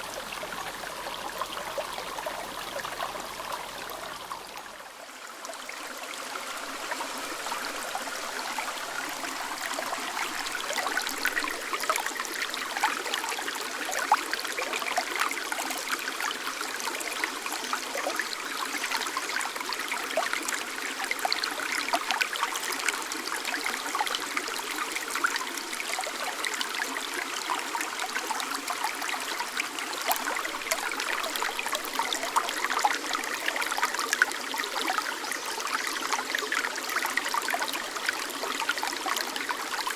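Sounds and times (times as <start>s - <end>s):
mountain stream babbling: 0.0s - 39.9s.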